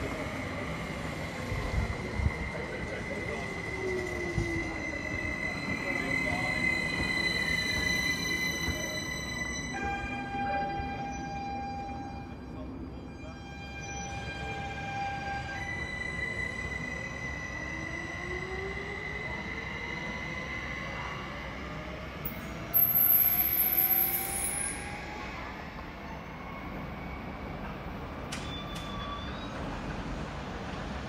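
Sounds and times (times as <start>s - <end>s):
electric train whine: 0.0s - 31.0s
train rolling rumble: 0.0s - 31.0s
train wheel squeal: 0.0s - 31.0s.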